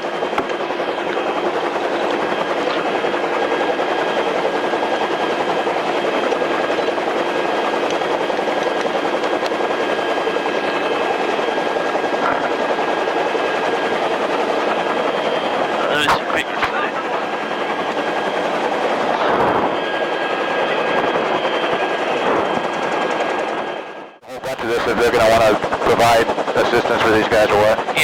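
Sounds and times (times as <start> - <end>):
helicopter engine and rotors: 0.0 - 28.0.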